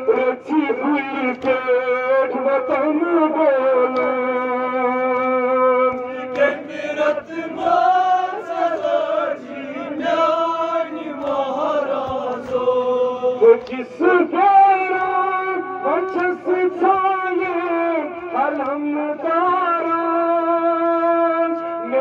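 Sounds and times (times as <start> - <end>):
man chanting a lament: 0.0 - 22.0.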